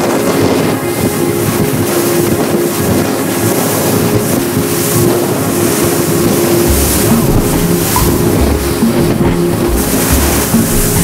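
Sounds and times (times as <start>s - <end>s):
boat engine drone: 0.0s - 11.0s
water rushing along hull: 0.0s - 11.0s
wind on microphone: 0.0s - 11.0s.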